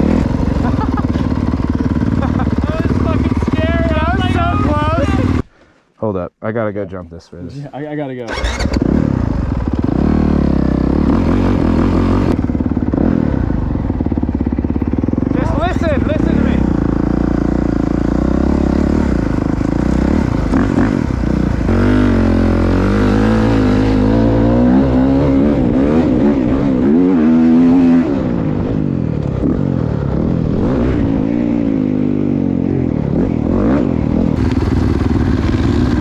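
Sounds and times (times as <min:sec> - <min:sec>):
dirt bike engine revving: 0:00.0 - 0:05.4, 0:08.3 - 0:36.0.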